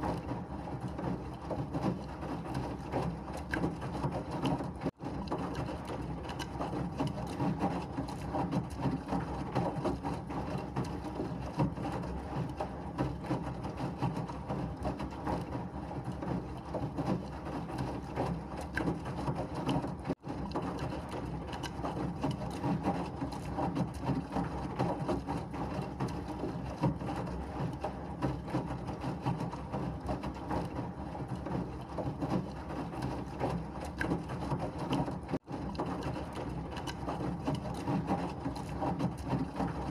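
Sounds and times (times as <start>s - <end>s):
washing machine churning: 0.0s - 39.9s.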